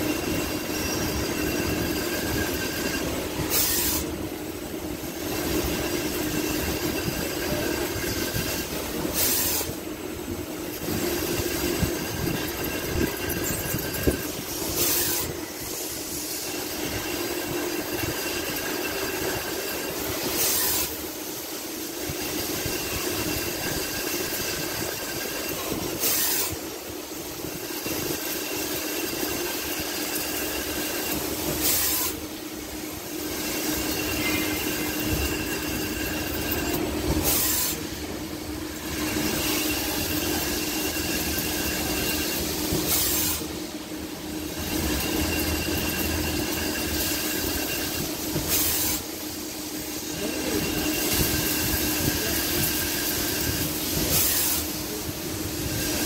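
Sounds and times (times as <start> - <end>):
lathe machine hum: 0.0 - 56.0.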